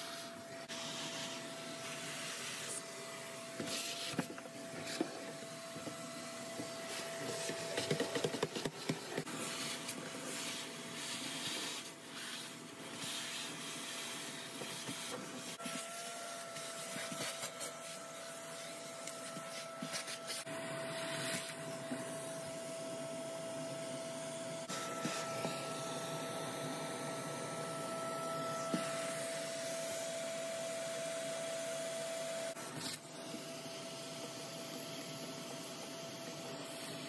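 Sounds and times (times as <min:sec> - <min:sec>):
vacuum cleaner whine: 0:00.0 - 0:37.0.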